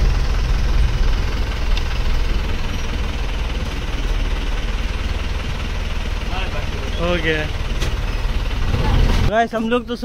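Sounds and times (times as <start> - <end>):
bus engine running at low revs: 0.0 - 10.0.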